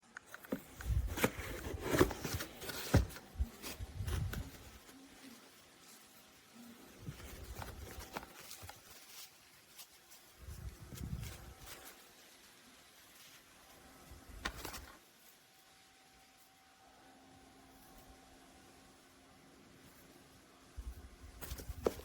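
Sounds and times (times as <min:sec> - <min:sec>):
rustling: 0:00.1 - 0:16.8, 0:19.6 - 0:22.0.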